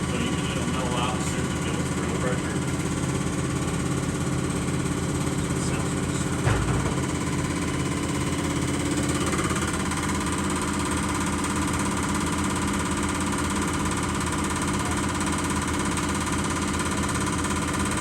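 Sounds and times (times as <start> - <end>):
diesel injector pulsing: 0.0 - 18.0.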